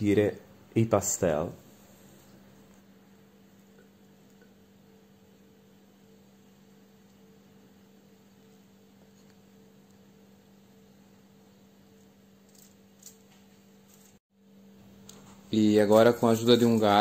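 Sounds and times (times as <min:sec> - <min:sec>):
faint low hum and hiss: 0:00.0 - 0:17.0.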